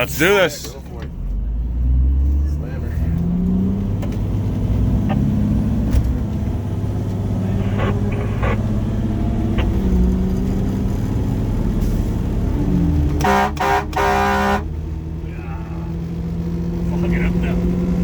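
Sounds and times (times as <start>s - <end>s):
fire truck engine accelerating: 0.0s - 18.0s.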